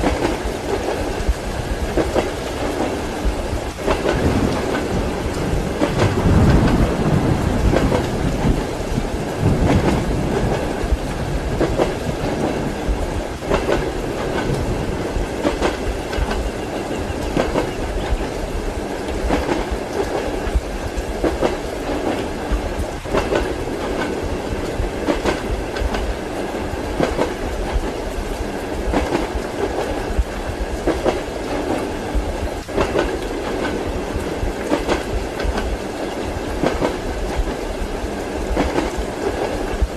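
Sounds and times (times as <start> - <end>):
train carriage rumble: 0.0 - 39.9
train wheels clacking over rail joints: 0.0 - 39.9.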